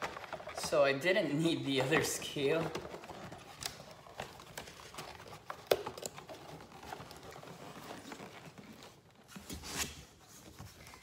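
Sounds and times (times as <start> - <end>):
cardboard boxes being handled: 0.0 - 11.0.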